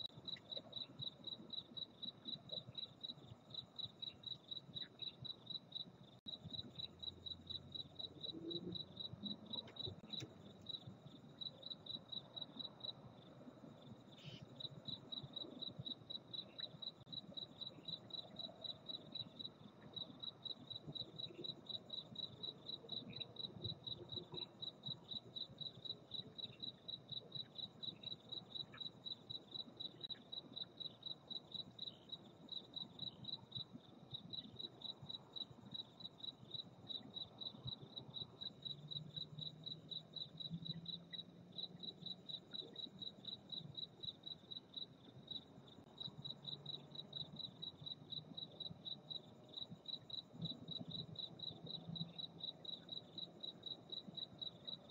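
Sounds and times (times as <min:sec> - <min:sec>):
cricket chirping: 0:00.0 - 0:54.9.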